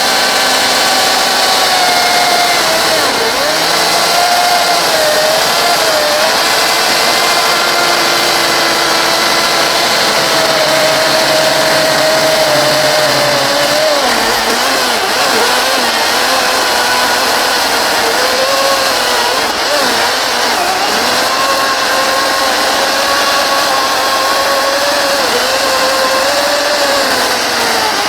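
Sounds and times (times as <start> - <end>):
chainsaw cutting into log: 0.0 - 28.0.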